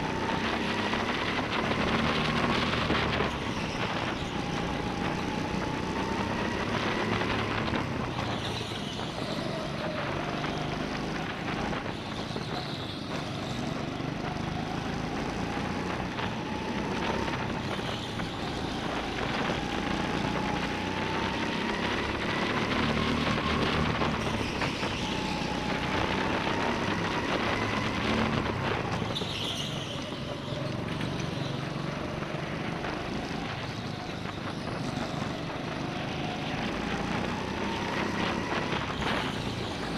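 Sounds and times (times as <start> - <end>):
go-kart motor whine: 0.0 - 39.9.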